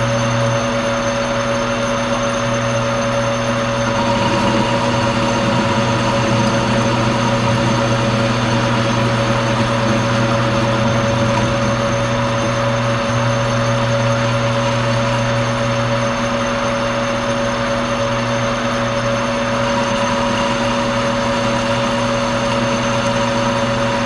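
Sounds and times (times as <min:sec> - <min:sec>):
gear whine: 0:00.0 - 0:24.0
lathe machine hum: 0:00.0 - 0:24.0.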